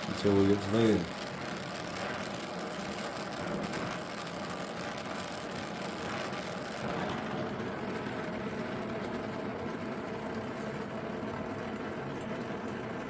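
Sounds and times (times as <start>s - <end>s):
gas torch flame hissing: 0.0s - 11.1s.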